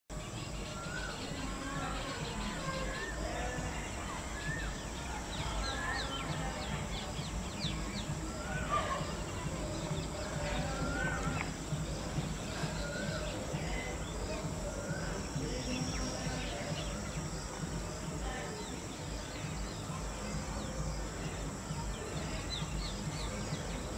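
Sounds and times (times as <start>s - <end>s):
birds whistling: 0.3s - 23.9s.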